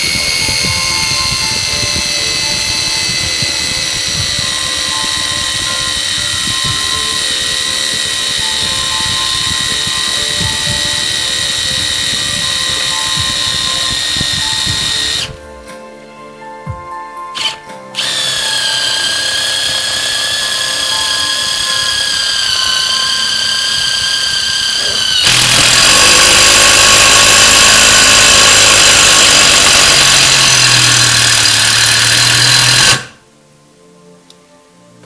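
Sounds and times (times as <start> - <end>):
impact driver hammering: 0.0 - 15.3, 17.4 - 33.2
impact driver motor whine: 0.0 - 15.4, 17.4 - 33.2.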